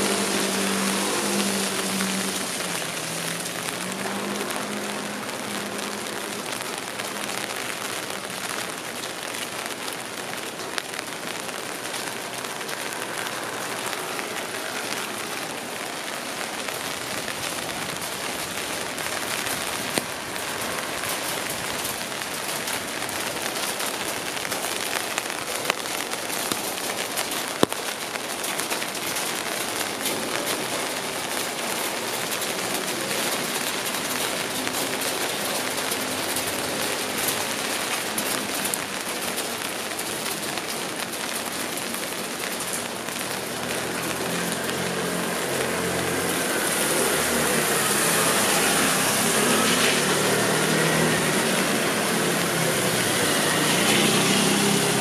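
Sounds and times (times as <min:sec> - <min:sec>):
rain on street: 0:00.0 - 0:55.0.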